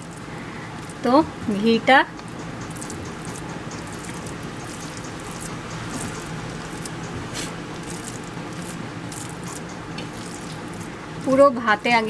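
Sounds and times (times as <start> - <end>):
fingers squishing rice: 2.2 - 12.0.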